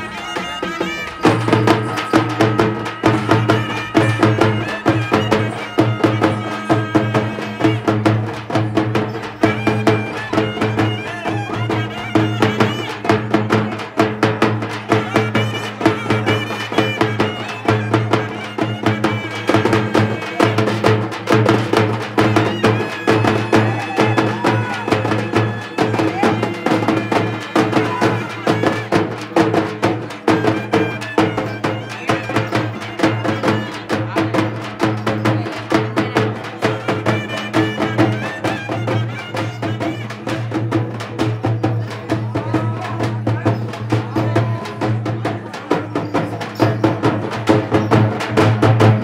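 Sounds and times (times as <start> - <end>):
fast drumming: 0.0 - 49.0
wind instrument melody: 0.0 - 49.0.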